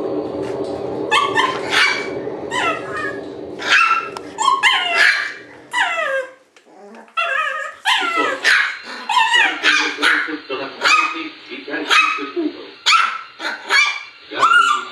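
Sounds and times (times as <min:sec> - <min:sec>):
puppies yipping and squealing: 0:01.1 - 0:11.2, 0:12.9 - 0:14.9.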